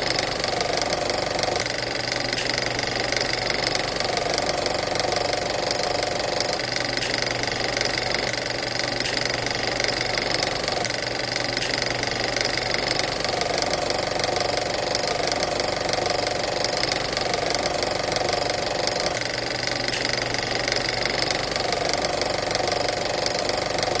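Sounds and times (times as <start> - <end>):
film projector clattering: 0.0 - 24.0.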